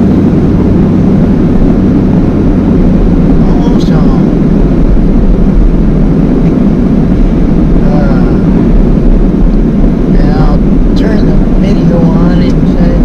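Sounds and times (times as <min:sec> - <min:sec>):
road and engine rumble in a van: 0:00.0 - 0:13.0.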